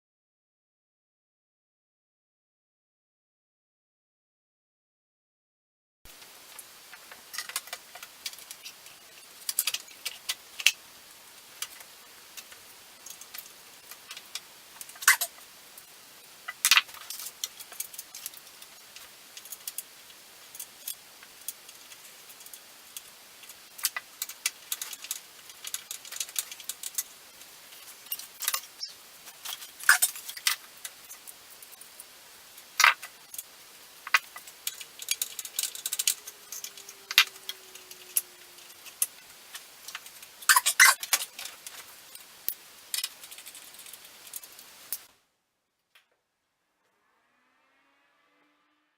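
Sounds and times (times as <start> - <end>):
faint steady hiss: 6.1 - 48.6.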